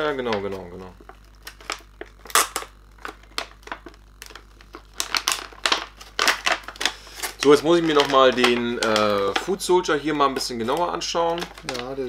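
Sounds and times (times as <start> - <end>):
plastic packaging clicks and crinkles: 0.0 - 12.0.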